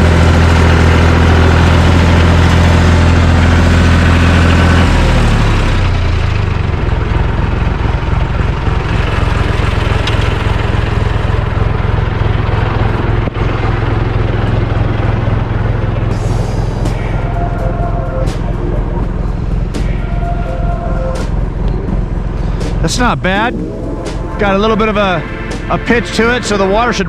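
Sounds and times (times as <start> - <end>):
bulldozer engine running: 0.0 - 27.0.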